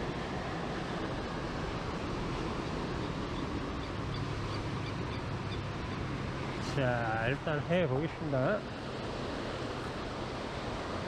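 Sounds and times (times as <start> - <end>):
ocean surf: 0.0 - 11.0.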